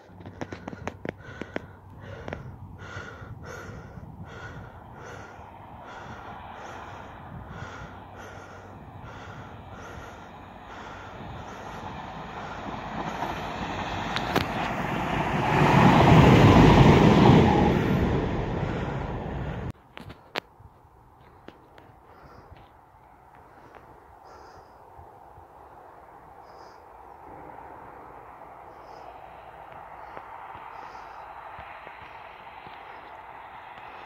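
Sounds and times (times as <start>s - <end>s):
diesel train passing: 0.0s - 19.8s, 25.5s - 34.0s.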